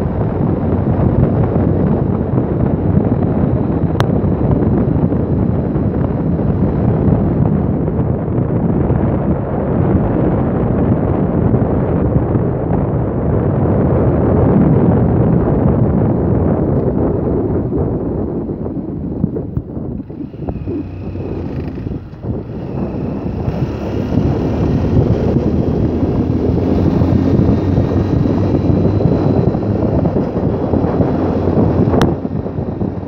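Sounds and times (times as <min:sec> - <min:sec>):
motorcycle rumble: 0:00.0 - 0:33.0
wind buffeting on microphone: 0:00.0 - 0:33.0.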